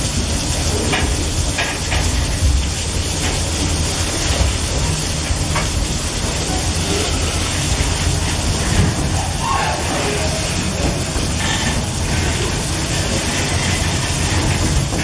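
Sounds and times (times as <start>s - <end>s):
freight wagon wheels rumbling on rail: 0.0s - 15.0s
heavy rain hissing: 0.0s - 15.0s.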